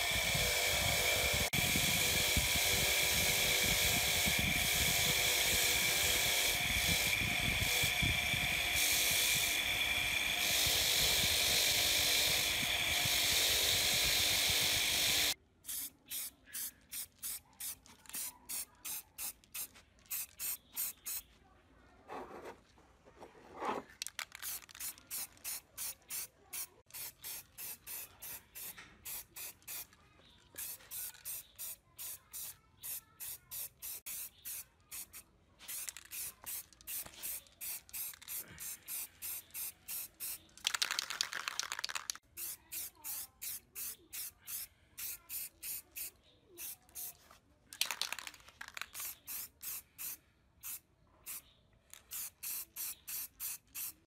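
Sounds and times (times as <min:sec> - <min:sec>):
spray paint can spraying: 0:00.0 - 0:21.3, 0:23.9 - 0:54.0.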